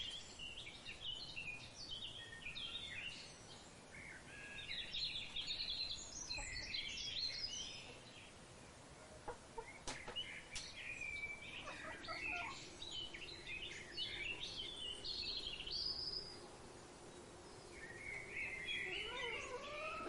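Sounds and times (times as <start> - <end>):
birds chirping and warbling: 0.0 - 20.0.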